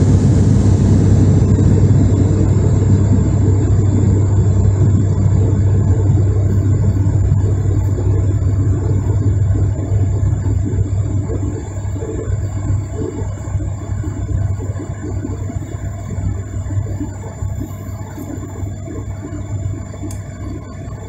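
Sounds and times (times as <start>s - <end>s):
turboprop engine cabin drone: 0.0s - 21.0s.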